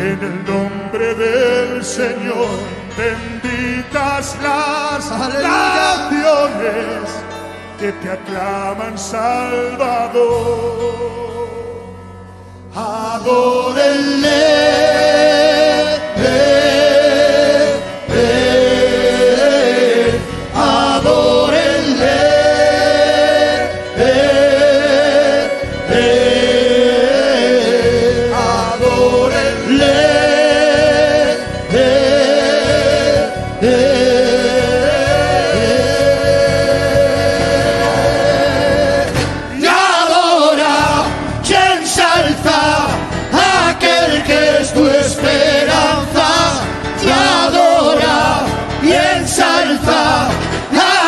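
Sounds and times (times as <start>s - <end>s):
church choir singing: 0.0s - 11.9s, 12.7s - 51.0s
instrumental accompaniment: 0.0s - 51.0s.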